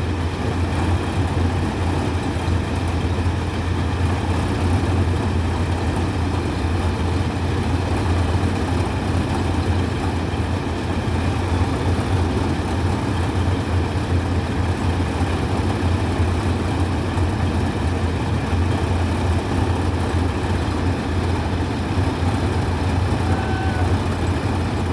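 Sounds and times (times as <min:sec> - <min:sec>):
combine harvester running: 0:00.0 - 0:24.9.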